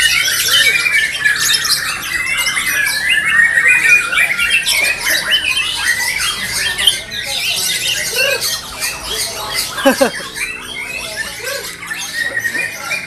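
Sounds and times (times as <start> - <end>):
birds singing chirps and trills: 0.0 - 13.0.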